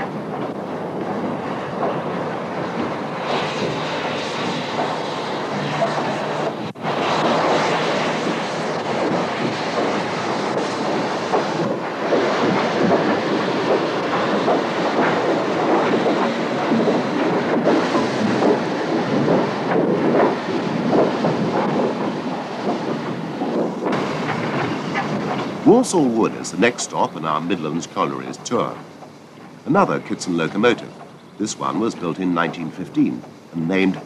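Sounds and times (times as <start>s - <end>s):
steam locomotive working steam: 0.0s - 34.0s
wheels on rails: 0.0s - 34.0s.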